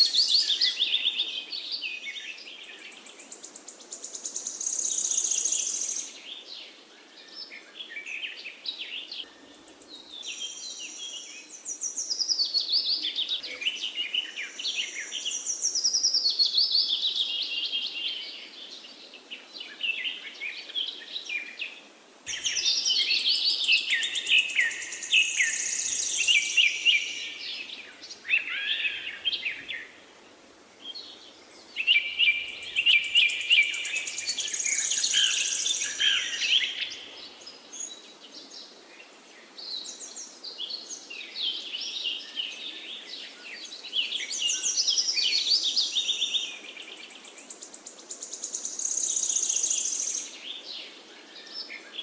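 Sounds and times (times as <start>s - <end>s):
birds singing: 0.0s - 52.0s.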